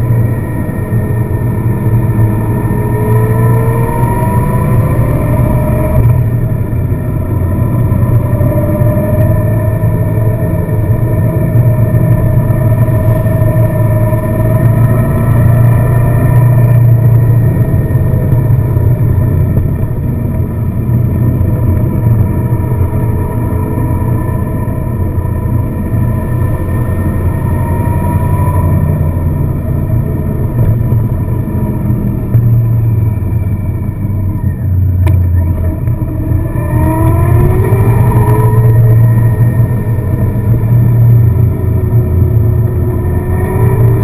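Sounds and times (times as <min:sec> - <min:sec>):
car engine accelerating: 0:00.0 - 0:44.0
road rumble: 0:00.0 - 0:44.0.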